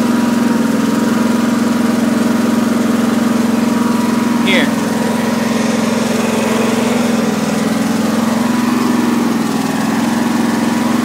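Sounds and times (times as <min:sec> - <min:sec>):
lawn tractor engine running: 0:00.0 - 0:11.0.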